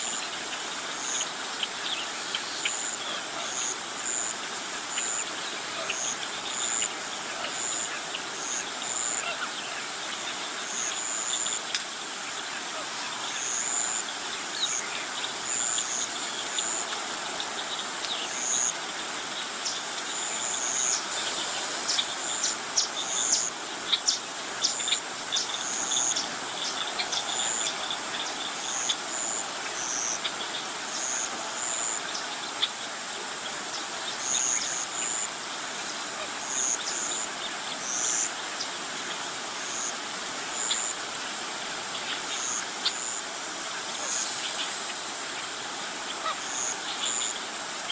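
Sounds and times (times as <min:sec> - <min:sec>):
steady high hiss: 0:00.0 - 0:47.9.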